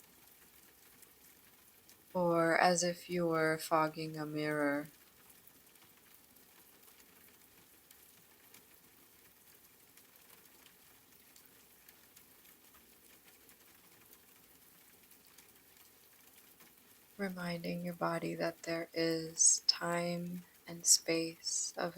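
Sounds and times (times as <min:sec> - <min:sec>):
faint steady rain: 0:00.0 - 0:21.9.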